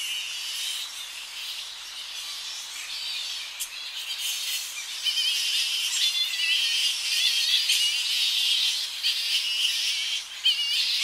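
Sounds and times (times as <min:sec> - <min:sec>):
flying foxes squealing: 0:00.0 - 0:11.0.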